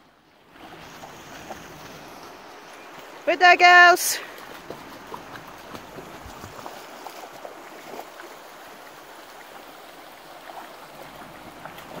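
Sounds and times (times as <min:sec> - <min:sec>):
river flowing: 0:00.0 - 0:12.0
dogs splashing in water: 0:00.4 - 0:12.0.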